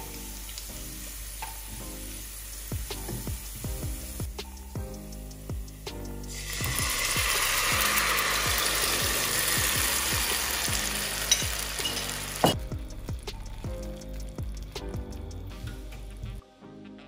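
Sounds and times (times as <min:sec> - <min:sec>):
tomato puree sizzling in oil: 0:00.0 - 0:05.5, 0:06.3 - 0:16.2
soft background music beat: 0:00.0 - 0:17.0.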